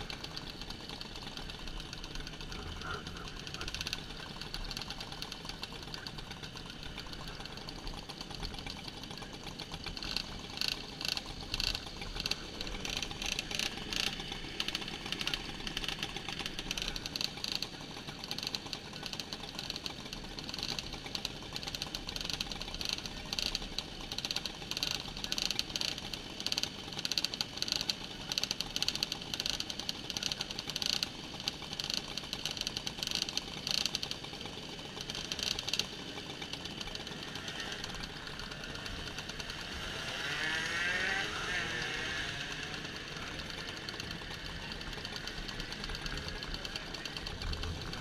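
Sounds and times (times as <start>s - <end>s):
engine revving: 0.0s - 48.0s
moped engines idling: 0.0s - 48.0s.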